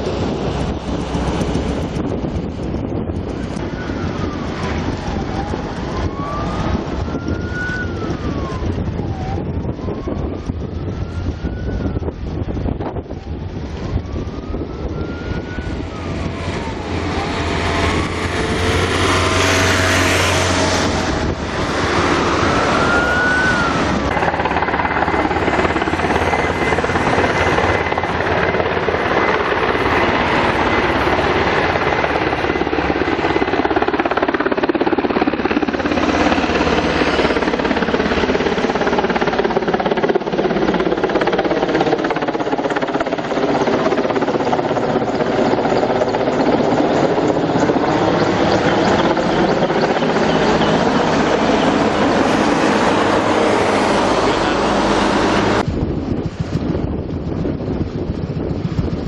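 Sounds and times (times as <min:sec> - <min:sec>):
helicopter rotor noise: 0:00.0 - 0:59.0.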